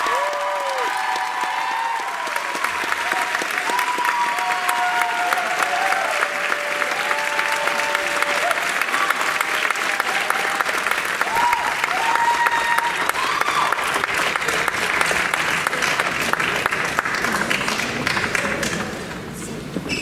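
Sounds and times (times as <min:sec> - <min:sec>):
audience cheering: 0:00.0 - 0:16.6
audience applauding: 0:00.0 - 0:19.2.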